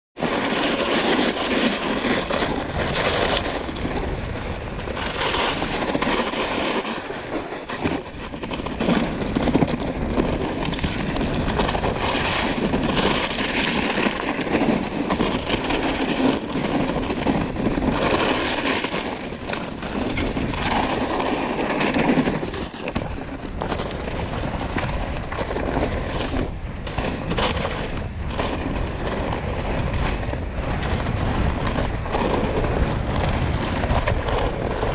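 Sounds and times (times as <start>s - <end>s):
bike tyre noise on trail: 0.2s - 34.9s
wind buffeting microphone: 0.2s - 34.9s.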